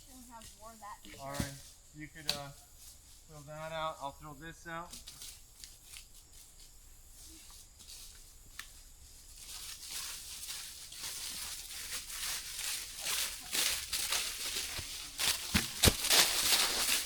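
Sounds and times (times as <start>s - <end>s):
rustling in dry leaves: 0.0s - 2.0s, 5.0s - 17.0s.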